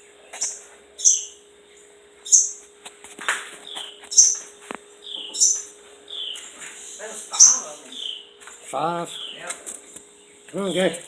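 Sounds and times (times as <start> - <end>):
faint steady hum: 0.0 - 11.0
songbirds chirping: 0.0 - 11.0.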